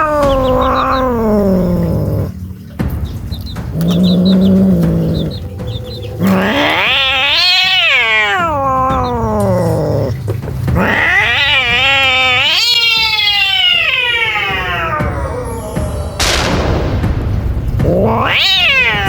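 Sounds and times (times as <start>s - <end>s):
cat yowling: 0.0s - 2.5s, 3.6s - 16.2s, 17.8s - 19.0s.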